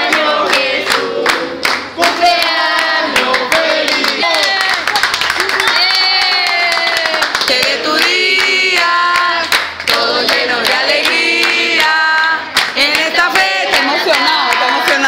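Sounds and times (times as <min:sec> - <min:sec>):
people clapping: 0:00.0 - 0:15.0
people singing a birthday tune: 0:00.0 - 0:15.0.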